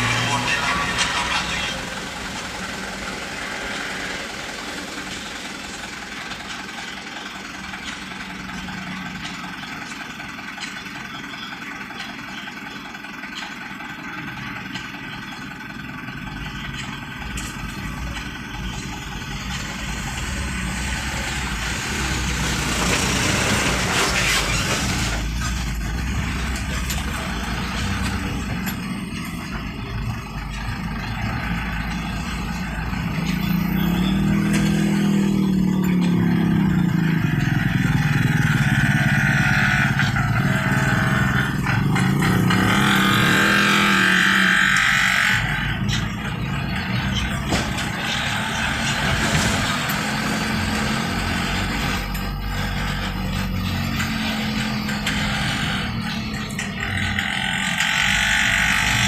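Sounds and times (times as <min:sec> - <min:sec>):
traffic engines rumbling: 0:00.0 - 0:59.0.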